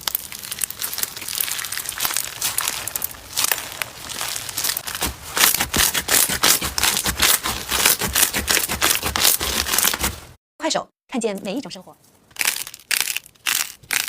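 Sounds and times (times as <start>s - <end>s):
slime crackling and popping: 0.0s - 10.1s, 12.4s - 14.0s.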